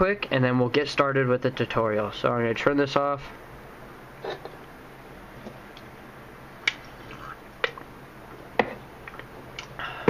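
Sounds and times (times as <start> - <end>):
faint room hiss: 0.0 - 10.0.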